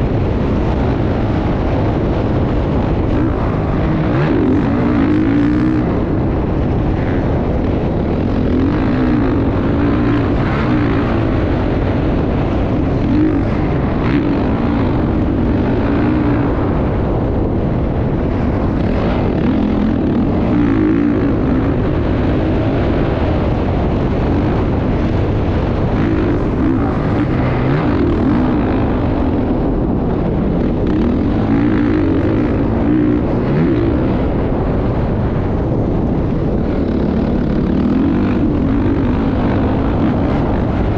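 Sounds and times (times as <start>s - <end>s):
dirt bike engine revving: 0.0s - 40.9s
rush of wind: 0.0s - 40.9s.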